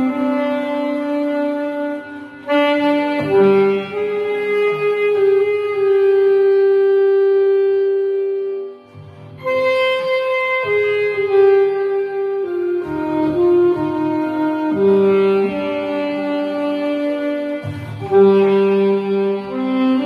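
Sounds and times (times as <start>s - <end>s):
quiet musical accompaniment: 0.0s - 20.0s
saxophone slow melody: 0.0s - 20.0s.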